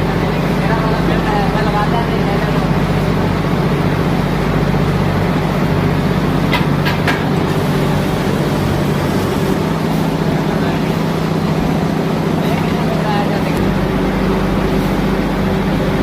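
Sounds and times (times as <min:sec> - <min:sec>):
machine droning: 0:00.0 - 0:16.0.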